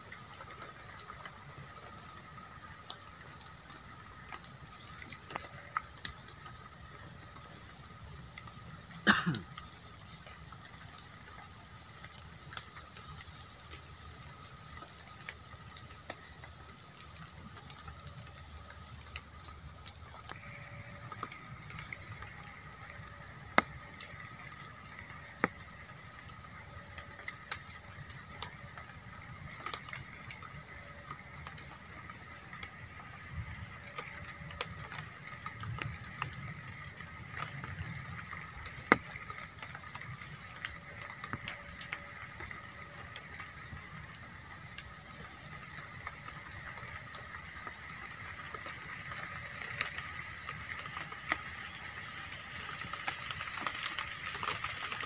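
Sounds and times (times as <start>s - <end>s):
insect drone: 0.0s - 55.0s.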